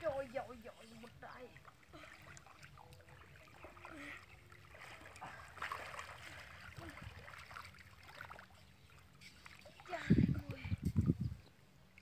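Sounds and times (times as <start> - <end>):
people wading in water: 0.0 - 11.2.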